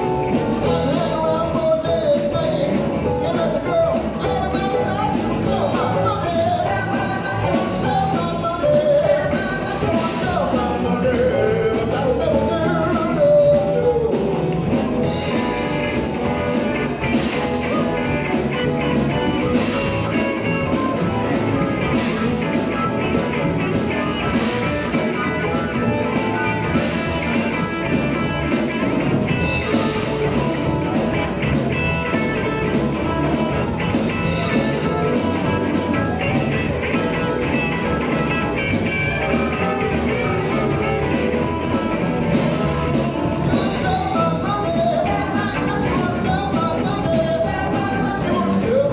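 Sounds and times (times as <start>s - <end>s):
blues-rock band playing: 0.0s - 48.9s.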